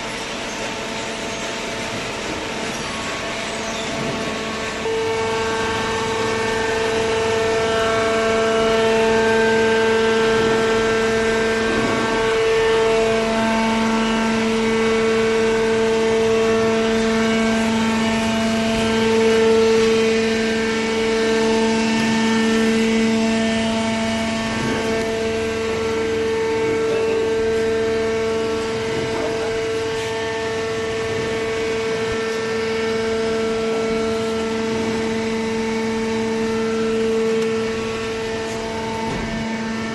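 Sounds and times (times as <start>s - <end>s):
hydraulic baler pump hum: 0.0s - 39.9s.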